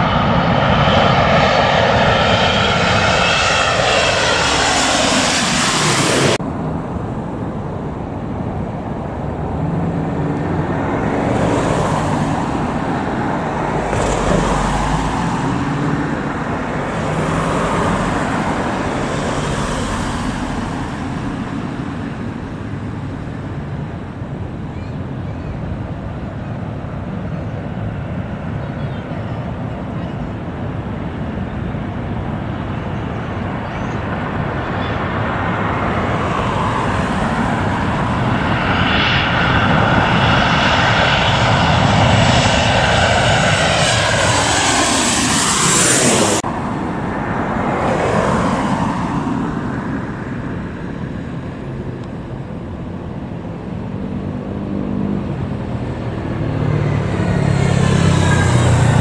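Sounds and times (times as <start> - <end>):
jet airliner passing: 0.0 - 59.0.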